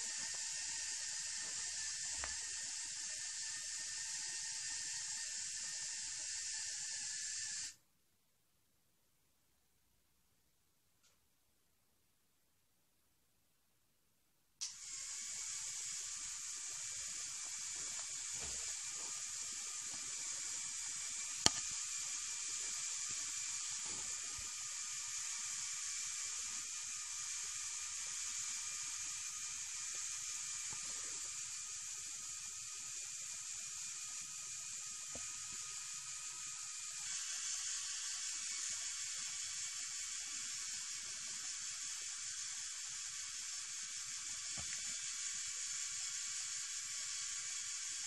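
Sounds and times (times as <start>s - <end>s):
small electric motors whirring: 0.0s - 7.8s, 14.6s - 48.0s.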